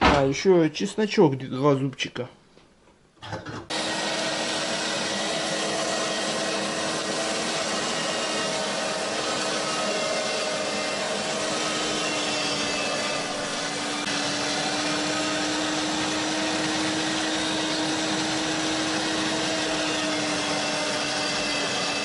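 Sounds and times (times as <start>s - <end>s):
electric meat grinder running: 3.7s - 22.0s.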